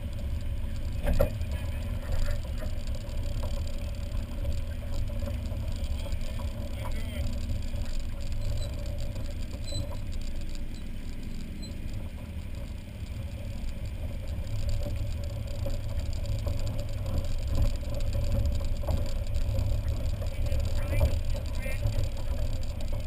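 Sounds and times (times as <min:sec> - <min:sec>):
engines rumbling at low speed: 0:00.0 - 0:23.0.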